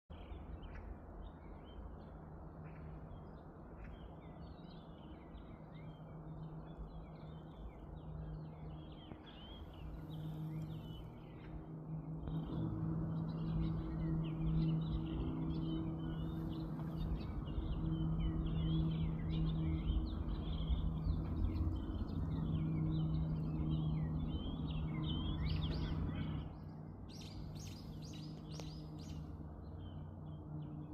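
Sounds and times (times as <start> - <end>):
low steady hum: 0.1 - 30.9
small birds chirping: 0.1 - 30.9.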